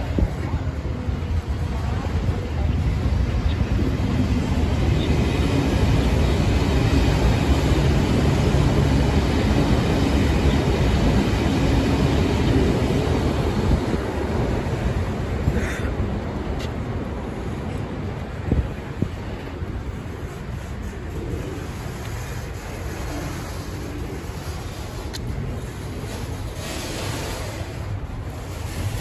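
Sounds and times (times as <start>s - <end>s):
train wheels rumbling on rails: 0.0s - 29.0s
wheels clickety-clack: 0.0s - 29.0s.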